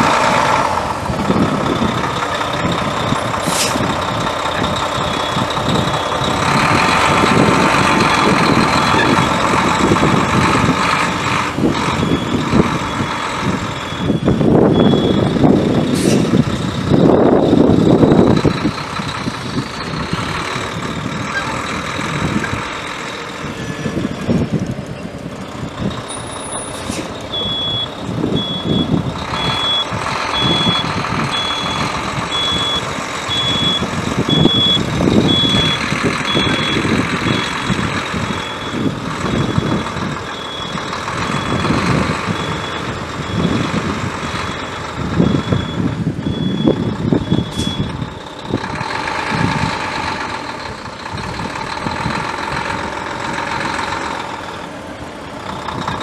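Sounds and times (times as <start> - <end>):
truck backup alarm beeping: 0.0 - 24.2, 25.6 - 56.0
diesel truck engine running: 0.0 - 56.0.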